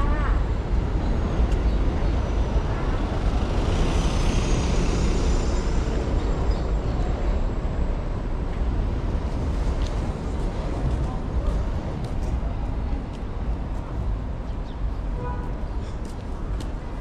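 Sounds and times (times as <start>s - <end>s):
road noise hiss: 0.0s - 17.0s
traffic rumble: 0.0s - 17.0s.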